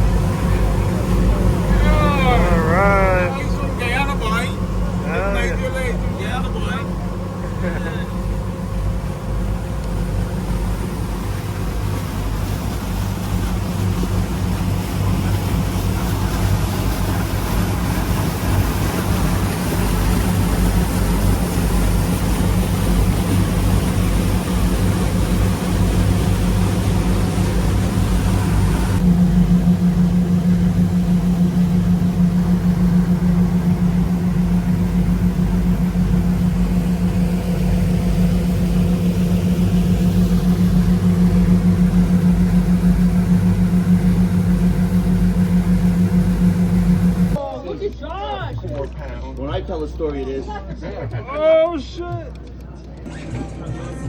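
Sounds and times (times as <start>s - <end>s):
boat engine humming: 0.0s - 54.0s
wind: 0.0s - 54.0s.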